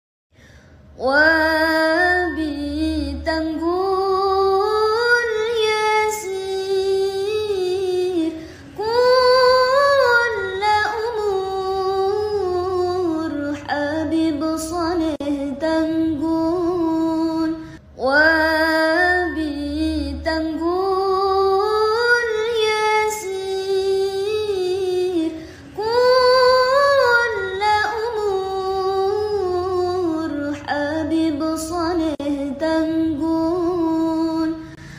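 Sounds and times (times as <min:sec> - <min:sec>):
low hum of accompaniment: 0:00.4 - 0:34.9
woman singing slow melody: 0:00.9 - 0:34.9.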